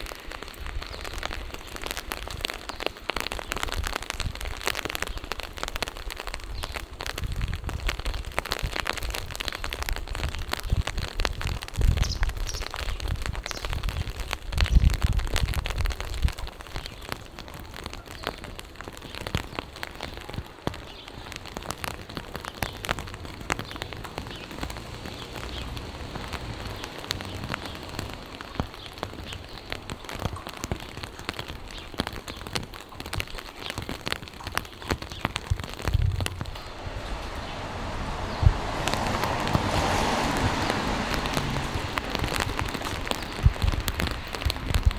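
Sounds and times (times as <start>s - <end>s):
rain falling: 0.0s - 44.9s
sharp raindrop hits: 0.0s - 44.9s.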